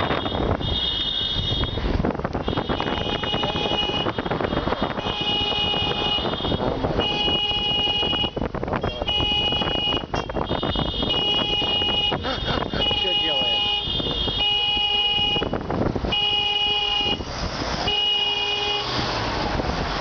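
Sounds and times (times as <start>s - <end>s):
car horns honking: 0.0s - 19.2s
traffic noise: 0.0s - 20.0s.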